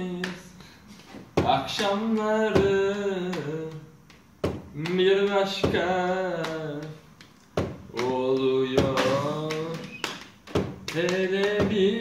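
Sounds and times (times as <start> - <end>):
sharp slaps marking a beat: 0.0 - 0.6, 1.2 - 12.0
young man singing held notes: 0.0 - 0.7, 1.4 - 7.3, 7.9 - 10.1, 10.9 - 12.0.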